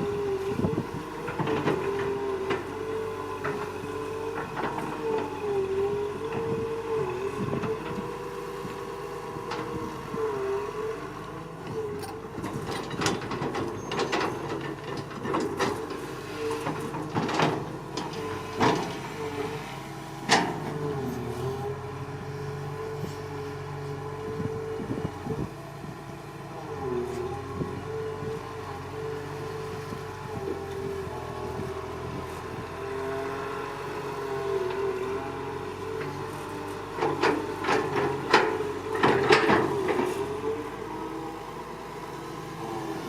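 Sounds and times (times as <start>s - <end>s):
excavator engine and hydraulics: 0.0s - 43.0s.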